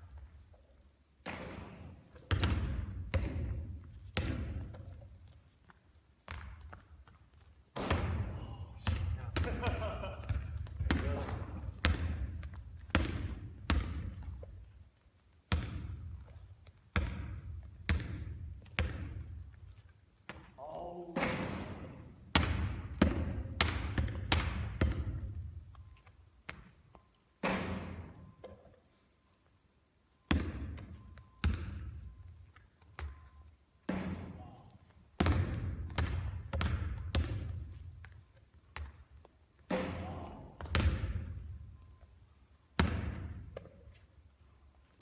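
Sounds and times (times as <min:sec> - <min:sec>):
basketball bouncing on court: 0:00.0 - 0:05.4, 0:06.2 - 0:14.8, 0:15.5 - 0:19.6, 0:20.2 - 0:28.6, 0:30.3 - 0:32.2, 0:32.8 - 0:41.7, 0:42.8 - 0:44.0.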